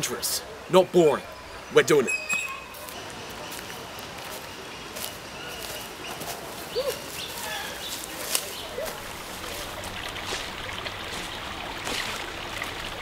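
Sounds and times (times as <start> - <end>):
birds calling: 0.0 - 3.8, 4.5 - 12.6.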